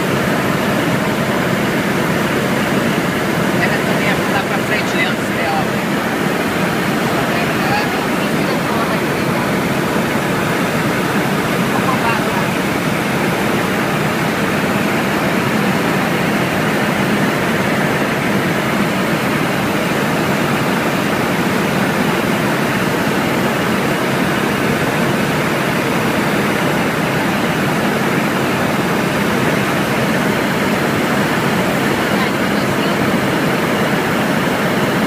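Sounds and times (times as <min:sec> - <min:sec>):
helicopter cabin noise: 0:00.0 - 0:35.0.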